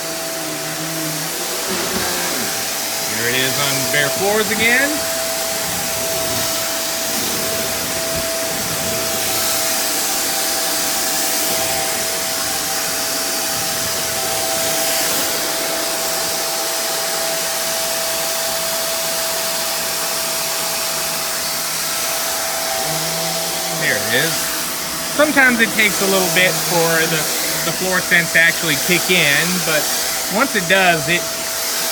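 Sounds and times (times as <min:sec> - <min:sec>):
upright vacuum running: 0:00.0 - 0:31.9.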